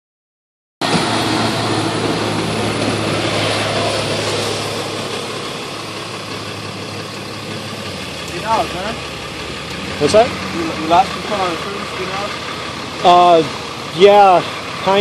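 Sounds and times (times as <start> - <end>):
truck engine idling: 0.8 - 15.0.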